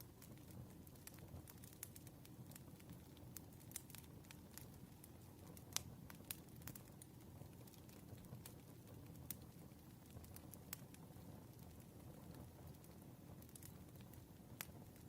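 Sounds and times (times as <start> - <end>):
campfire pops and snaps: 0.0 - 15.0
low rumble of burning wood: 0.0 - 15.0.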